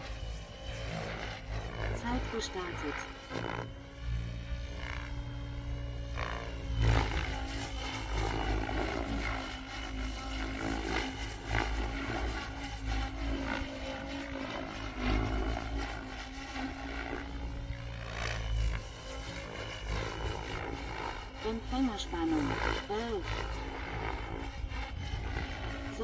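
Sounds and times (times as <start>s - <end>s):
helicopter rotor whine: 0.0s - 26.0s.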